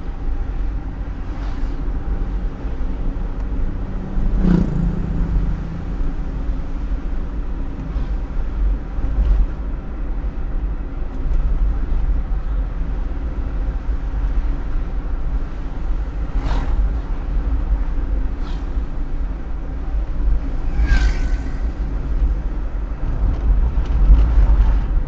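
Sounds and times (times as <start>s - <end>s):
vehicle rumble and road noise: 0.0s - 25.0s.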